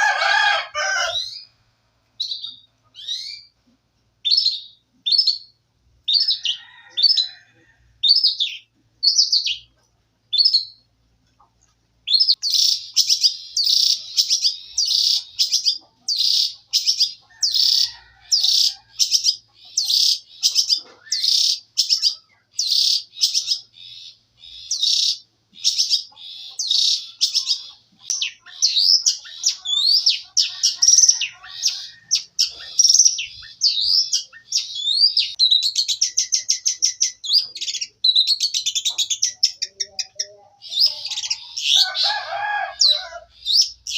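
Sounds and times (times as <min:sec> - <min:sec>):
songbird chirps and trills: 0:00.0 - 0:43.9.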